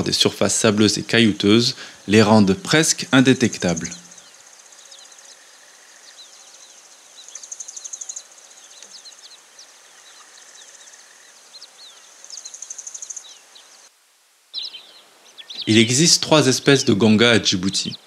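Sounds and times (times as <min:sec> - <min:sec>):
high chirping bird calls: 0:00.0 - 0:13.9, 0:14.6 - 0:18.0
faint hiss: 0:00.0 - 0:18.0.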